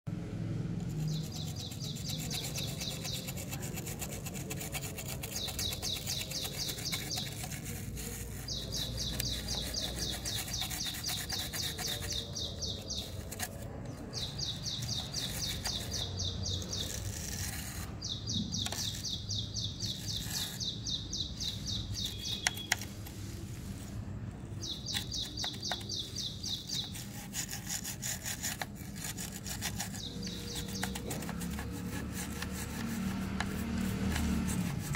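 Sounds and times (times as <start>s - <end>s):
toothbrush scrubbing circuit board: 0.8s - 23.5s, 24.6s - 34.9s.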